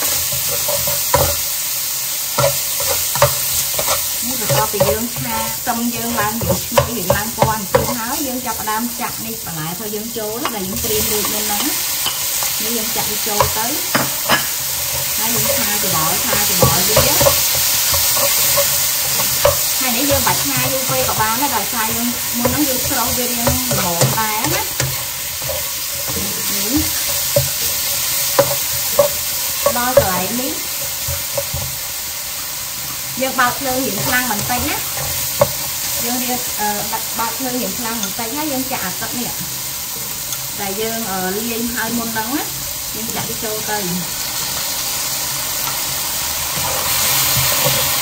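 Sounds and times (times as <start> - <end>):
spatula scraping and tapping pan: 0.0 - 1.5, 2.4 - 9.2, 10.4 - 31.9, 32.8 - 40.5, 46.6 - 48.0
food sizzling in a wok: 0.0 - 48.0.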